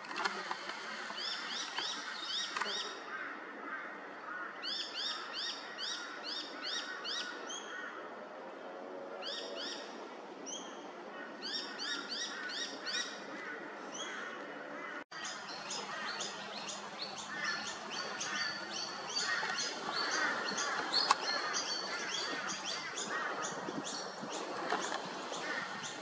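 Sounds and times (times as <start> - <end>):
birds and insects background: 0.0 - 26.0.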